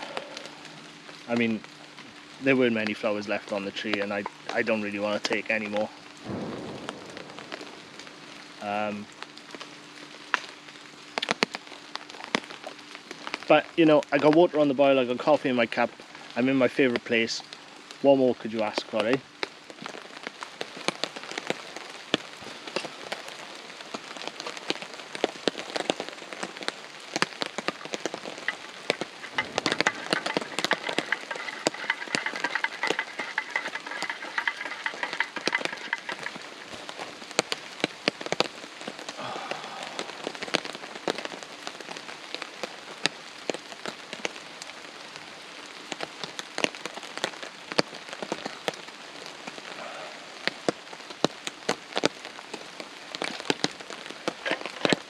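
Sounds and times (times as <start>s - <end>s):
heavy rain on a tarp: 0.0s - 55.0s.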